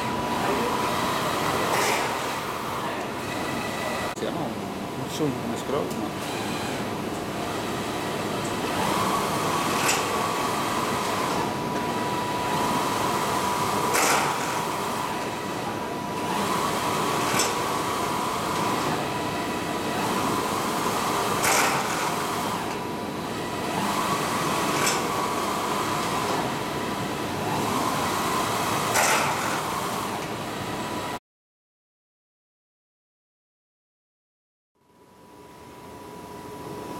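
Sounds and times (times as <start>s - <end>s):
printer carriage whine: 0.0s - 31.2s, 35.0s - 36.9s.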